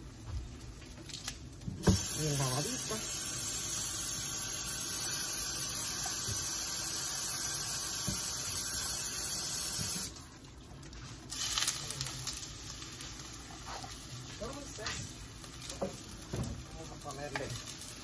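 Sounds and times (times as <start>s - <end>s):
steady hiss: 1.8s - 10.2s, 11.3s - 18.0s.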